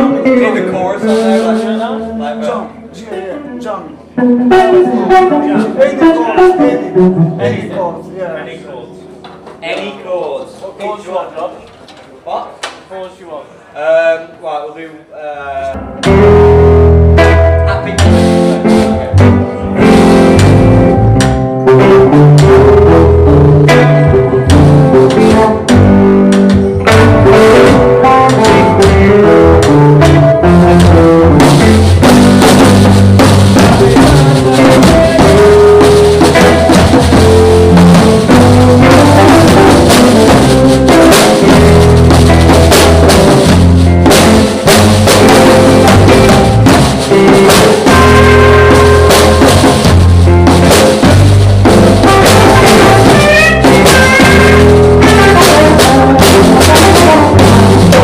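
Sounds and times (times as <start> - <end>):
drum kit beat: 0.0 - 3.2, 4.1 - 10.4, 15.8 - 58.0
live band jamming: 0.0 - 13.2, 15.6 - 58.0.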